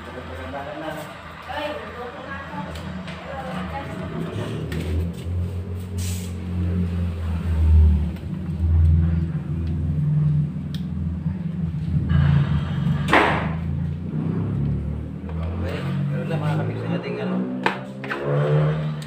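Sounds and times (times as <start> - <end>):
steady low rumble: 0.0 - 17.3.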